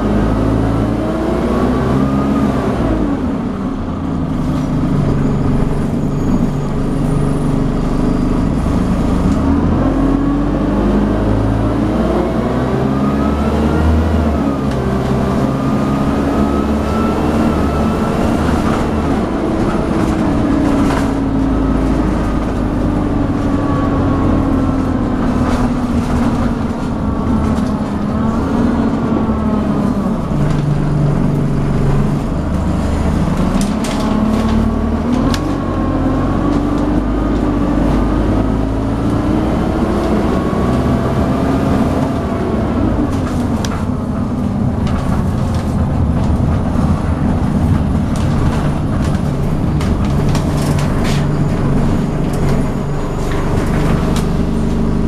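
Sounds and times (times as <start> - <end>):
bus diesel engine droning: 0.0 - 55.0
road and body noise: 2.3 - 55.0.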